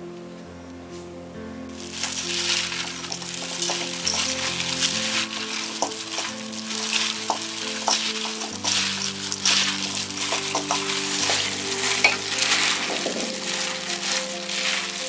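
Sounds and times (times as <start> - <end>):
soft background music: 0.0 - 15.0
hands mixing vegetables in a bowl: 1.8 - 15.0.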